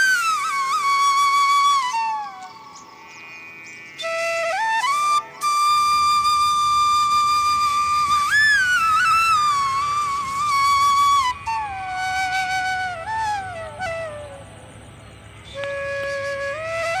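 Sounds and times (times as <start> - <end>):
solo flute melody: 0.0 - 3.1, 4.0 - 14.8, 15.4 - 17.0.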